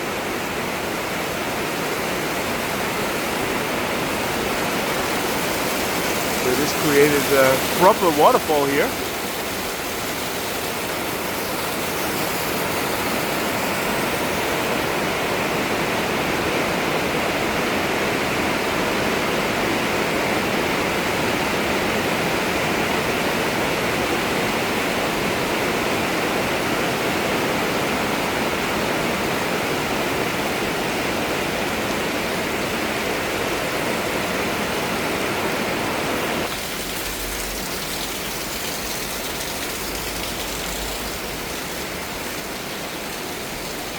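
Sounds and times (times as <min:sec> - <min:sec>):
heavy rain downpour: 0:00.0 - 0:43.9
rainwater pouring off building: 0:00.0 - 0:43.9.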